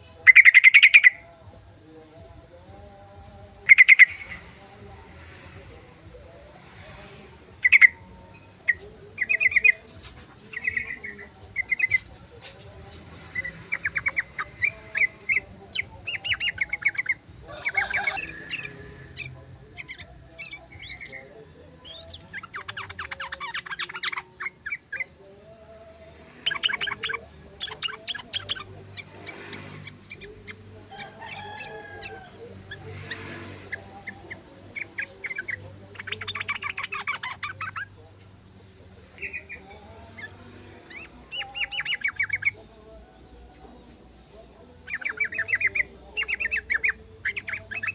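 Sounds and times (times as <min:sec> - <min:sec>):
bird singing and chattering: 0:00.0 - 0:47.9.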